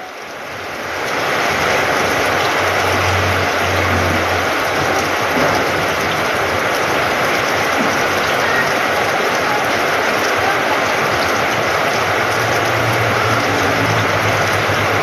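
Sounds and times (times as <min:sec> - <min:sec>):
heavy rain splashing into puddles: 0:00.0 - 0:15.0.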